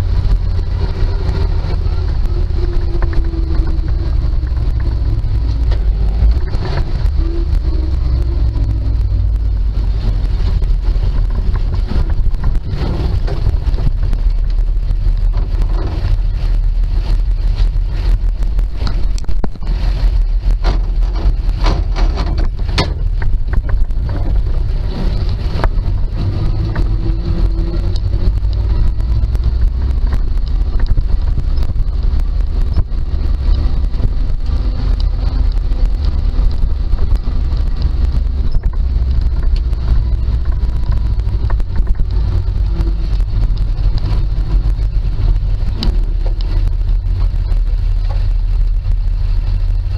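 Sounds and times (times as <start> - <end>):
cab rattles: 0.0 - 49.9
truck engine droning: 0.0 - 49.9.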